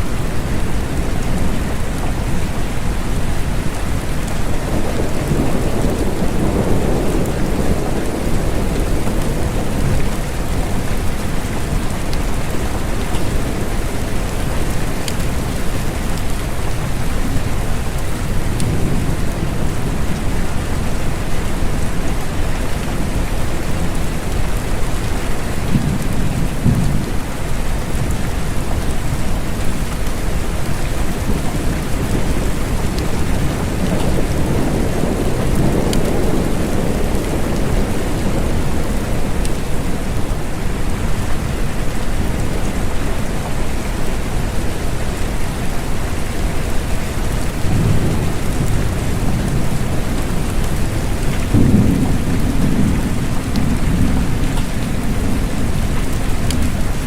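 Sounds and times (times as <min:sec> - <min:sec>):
steady rain: 0:00.0 - 0:57.0
low rolling thunder: 0:00.1 - 0:45.6, 0:46.2 - 0:57.0.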